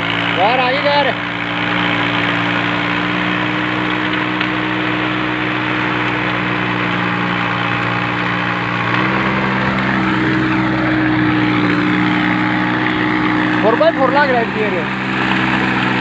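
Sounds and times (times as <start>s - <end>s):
rotary tiller through soil: 0.0s - 16.0s
tractor diesel engine running: 0.0s - 16.0s.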